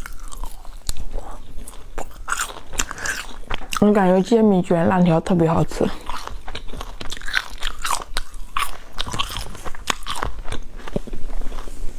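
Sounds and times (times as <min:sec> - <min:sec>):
person chewing crunchy snack: 0:00.0 - 0:04.0, 0:05.8 - 0:11.8.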